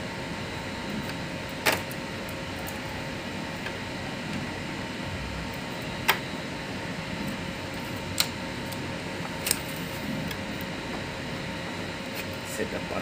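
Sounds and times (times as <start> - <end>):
fan-like room hum: 0.0 - 13.0.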